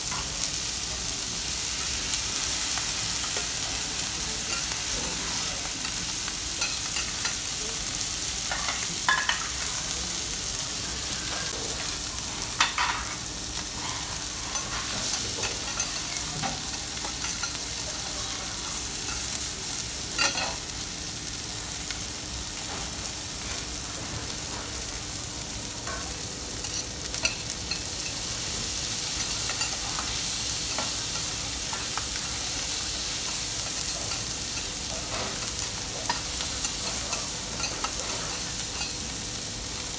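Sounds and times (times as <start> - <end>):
steak sizzling on griddle: 0.0 - 39.9.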